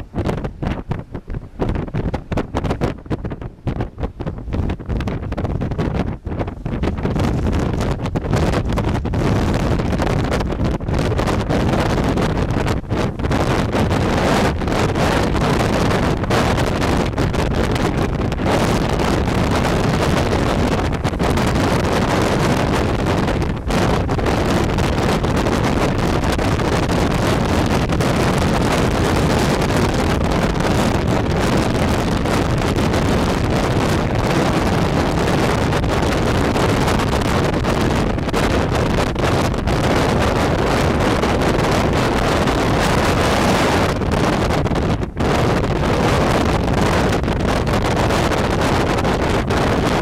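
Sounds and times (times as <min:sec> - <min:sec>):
wind rumbling on microphone: 0:00.0 - 0:50.0.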